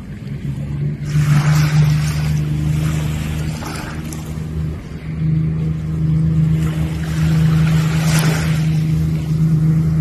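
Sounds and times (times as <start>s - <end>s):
jet ski engine running: 0.0s - 10.0s
water rushing against hull: 0.0s - 10.0s.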